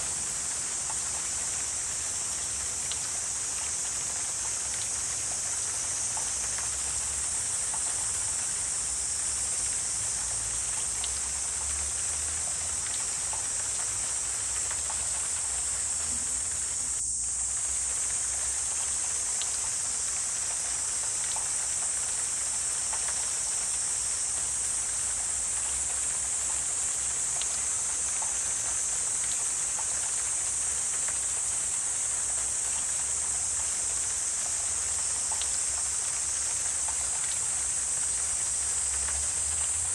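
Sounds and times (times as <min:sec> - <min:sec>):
insects chorus: 0:00.0 - 0:39.9
faint ticks: 0:00.6 - 0:08.6, 0:09.4 - 0:16.4, 0:17.0 - 0:39.9.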